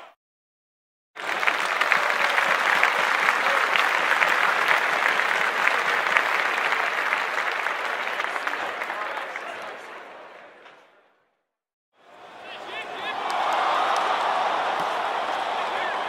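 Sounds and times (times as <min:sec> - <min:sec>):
crowd clapping: 0:01.2 - 0:10.6, 0:12.5 - 0:16.0.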